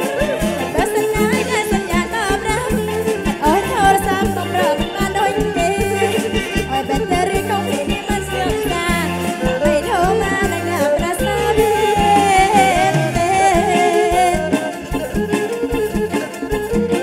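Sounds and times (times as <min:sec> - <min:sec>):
woman singing into a microphone: 0:00.0 - 0:15.0
folk band playing: 0:00.0 - 0:17.0
regular drum beat: 0:00.0 - 0:17.0.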